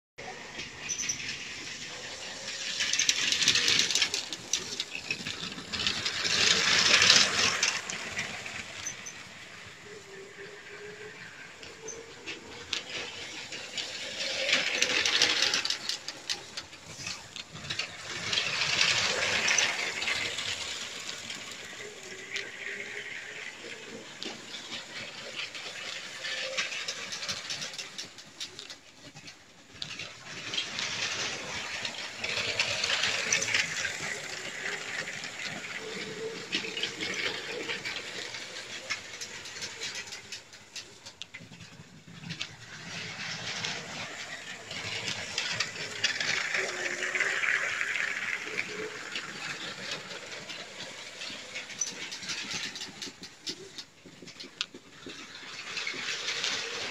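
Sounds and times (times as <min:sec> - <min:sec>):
toy train wheels clattering: 0:00.2 - 0:56.9.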